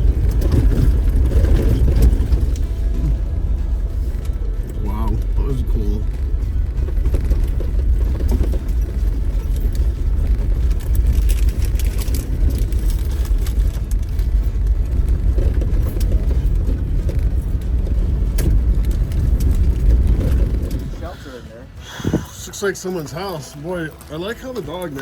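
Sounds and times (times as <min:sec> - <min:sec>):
knocks and rattles: 0:00.0 - 0:21.2
diesel engine rumble: 0:00.0 - 0:25.0.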